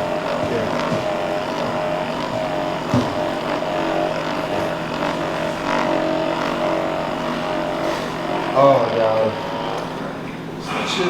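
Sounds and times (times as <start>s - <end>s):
massage gun buzzing: 0.0s - 11.0s.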